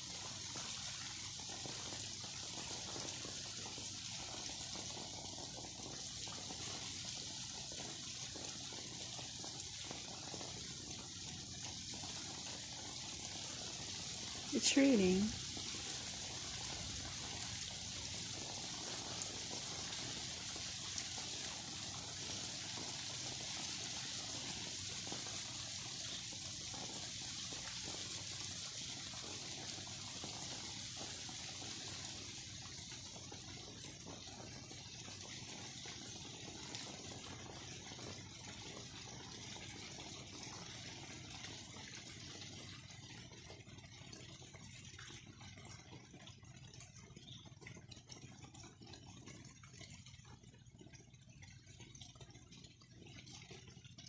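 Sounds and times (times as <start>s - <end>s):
steady rain falling: 0.0s - 44.2s.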